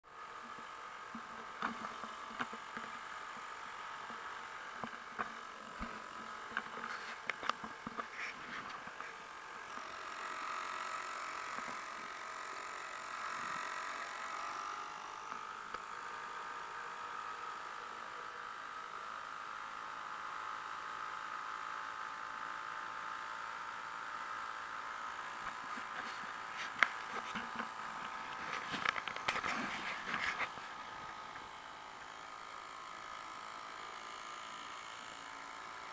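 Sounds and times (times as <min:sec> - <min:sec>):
outboard motor running: 0:00.1 - 0:35.9.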